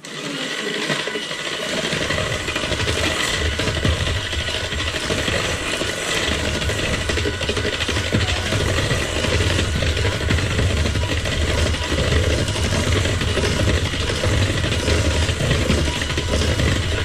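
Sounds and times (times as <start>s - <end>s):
electric mixer motor: 0.0s - 17.0s.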